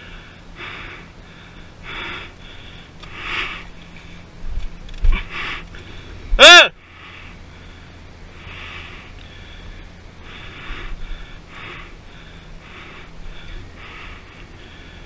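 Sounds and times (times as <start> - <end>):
person panting: 0.0 - 3.9, 5.1 - 15.0
low steady hum: 0.0 - 15.0.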